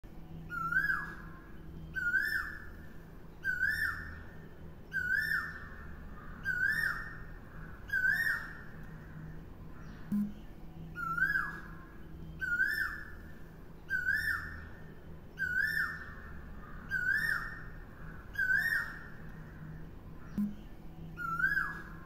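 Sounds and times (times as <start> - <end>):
cuckoo calling: 0.5 - 22.0.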